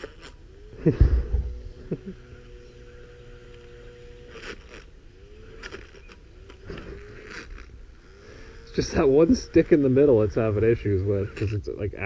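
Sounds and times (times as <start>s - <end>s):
motor whine spinning blade: 0.0s - 12.0s.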